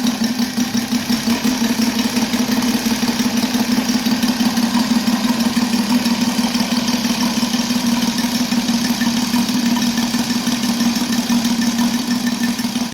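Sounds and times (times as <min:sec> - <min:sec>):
model aircraft engine running: 0:00.0 - 0:12.9.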